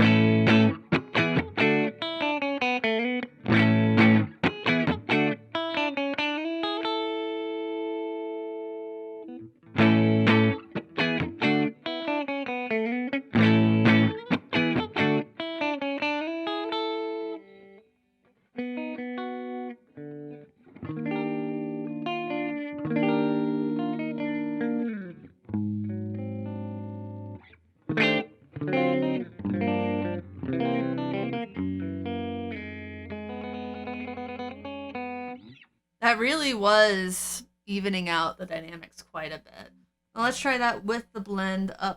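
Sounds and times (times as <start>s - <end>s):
electric guitar playing: 0.0s - 17.8s, 18.6s - 35.6s.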